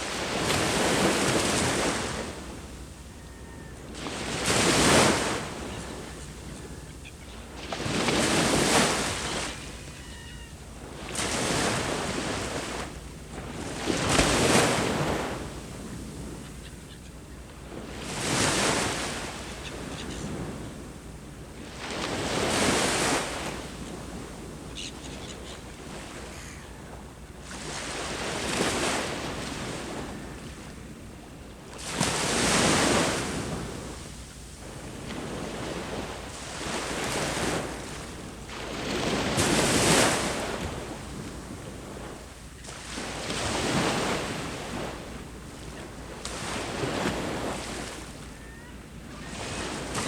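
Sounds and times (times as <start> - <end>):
ocean waves breaking on shore: 0.0 - 16.9, 17.5 - 50.0.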